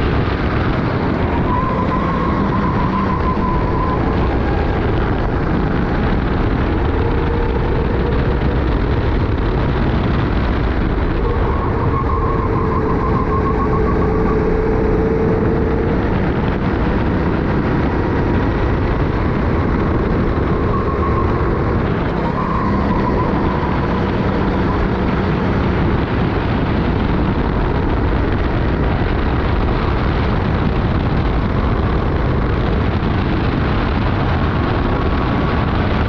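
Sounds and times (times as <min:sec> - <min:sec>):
kart engine racing: 0:00.0 - 0:36.0
wind rush over microphone: 0:00.0 - 0:36.0.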